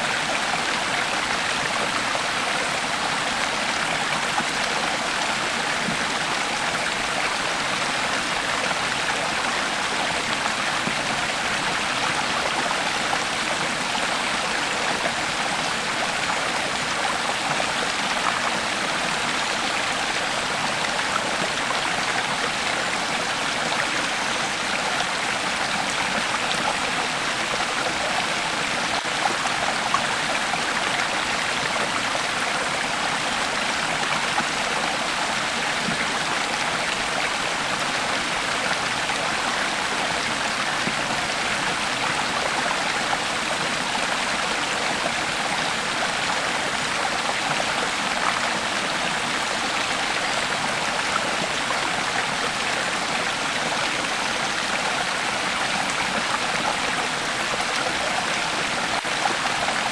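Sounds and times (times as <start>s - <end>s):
creek babbling over stones: 0.0s - 59.9s.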